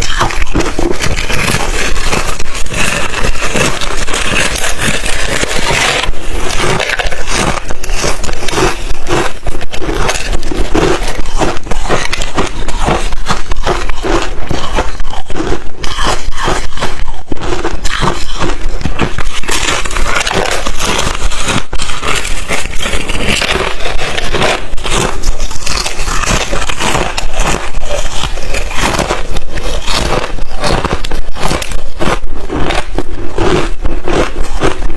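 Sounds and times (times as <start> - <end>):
chewing ice chips: 0.0 - 34.9.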